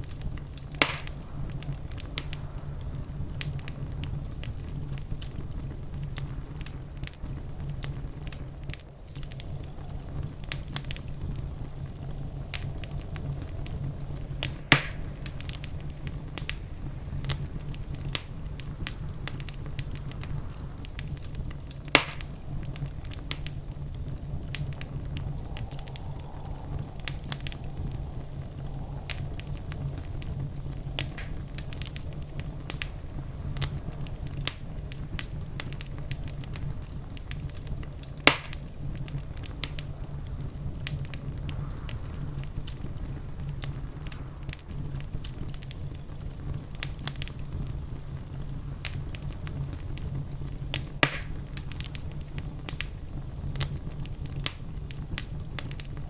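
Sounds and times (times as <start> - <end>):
loud sharp fire pops: 0.0 - 56.0
low rumble of fire: 0.0 - 56.0
wood fire crackling: 0.0 - 56.0.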